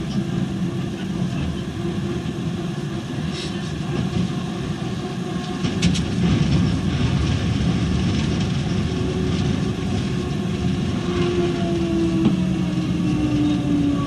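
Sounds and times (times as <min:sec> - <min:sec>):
tram motors and wheels on rails: 0:00.0 - 0:14.0.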